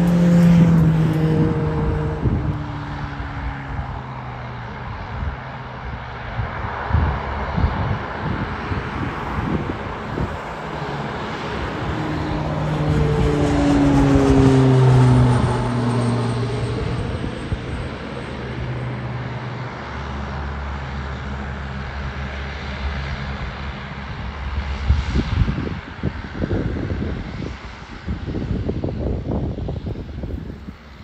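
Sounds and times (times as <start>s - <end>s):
turboprop engines and propellers humming: 0.0s - 31.0s.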